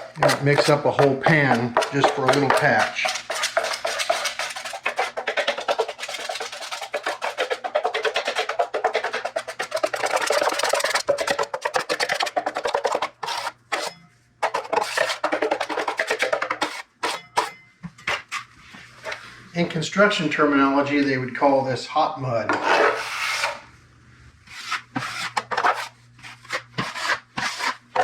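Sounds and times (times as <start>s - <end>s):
knife scraping in metal pan: 0.0s - 19.2s, 22.5s - 23.7s, 24.4s - 28.0s.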